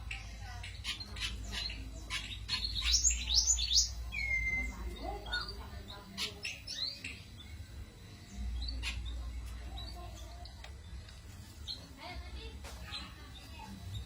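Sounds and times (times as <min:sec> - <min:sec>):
bird chirping and twittering: 0:00.0 - 0:14.0.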